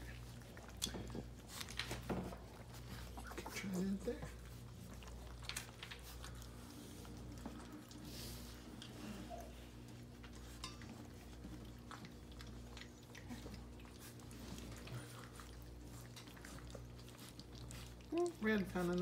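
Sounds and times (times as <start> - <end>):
puppies lapping food: 0.0 - 19.0
steady low hum: 0.0 - 19.0.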